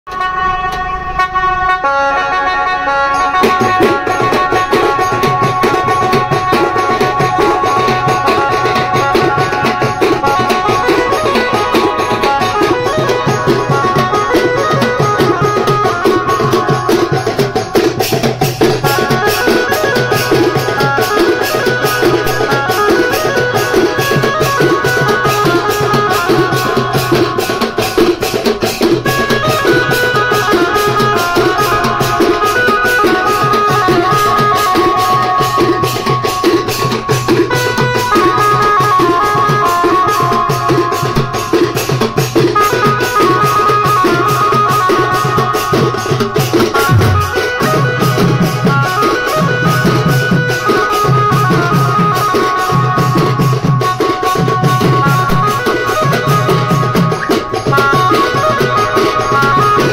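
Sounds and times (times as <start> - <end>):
sustained melody line: 0.1 - 53.0
fast drum beat: 3.5 - 59.9.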